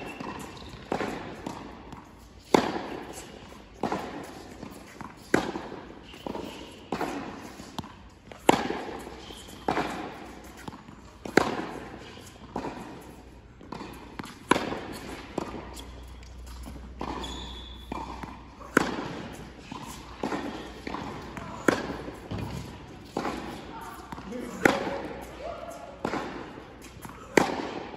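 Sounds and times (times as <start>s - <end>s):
racket striking tennis ball: 0.0s - 25.4s, 26.0s - 27.9s
tennis ball bouncing: 0.0s - 25.4s, 26.0s - 27.9s.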